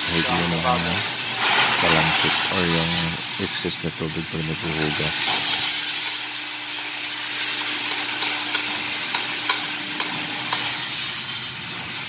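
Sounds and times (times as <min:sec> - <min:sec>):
hissing crackling workshop noise: 0:00.0 - 0:12.0.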